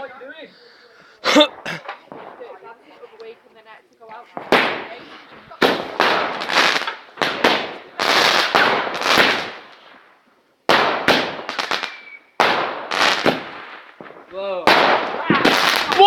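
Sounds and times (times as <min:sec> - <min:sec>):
fireworks bangs: 0:01.2 - 0:16.0.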